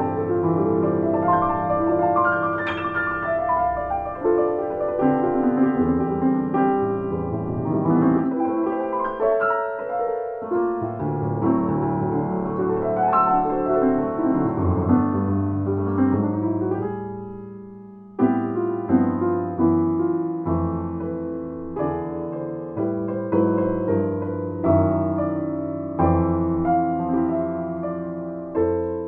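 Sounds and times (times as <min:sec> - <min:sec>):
solo piano playing: 0:00.0 - 0:29.0.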